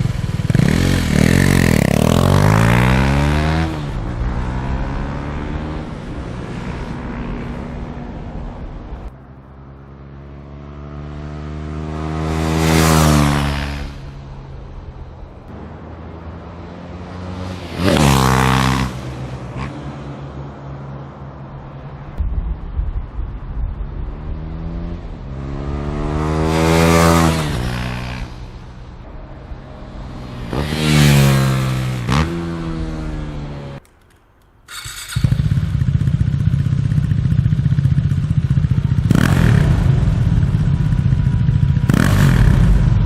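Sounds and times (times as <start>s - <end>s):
motorcycle engine revving: 0.0s - 8.5s, 9.9s - 14.6s, 16.2s - 20.1s, 24.0s - 33.8s, 34.7s - 43.0s
motorcycle driving by: 0.0s - 14.8s, 15.6s - 20.4s, 24.0s - 33.8s, 34.7s - 43.0s.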